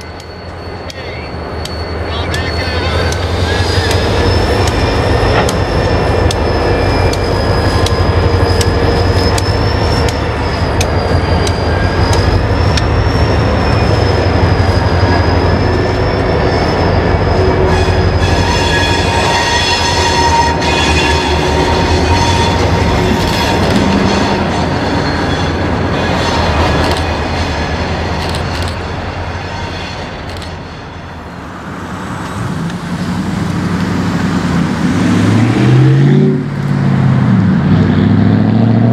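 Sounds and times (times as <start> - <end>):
wheel flanges squealing: 0.0 - 31.4
diesel locomotive engine drone: 0.0 - 38.9.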